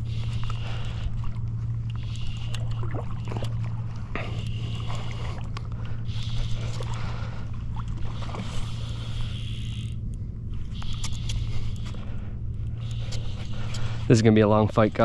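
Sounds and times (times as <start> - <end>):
fly reel drag buzzing: 0.0 - 15.0
steady low hum: 0.0 - 15.0.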